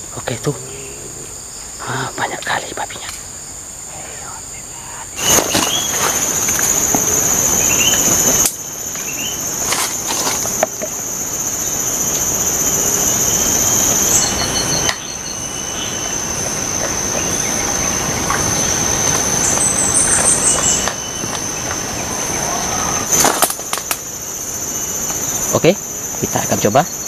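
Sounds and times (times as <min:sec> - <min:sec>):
background hiss: 0:00.0 - 0:27.0
insects buzzing: 0:00.0 - 0:27.0.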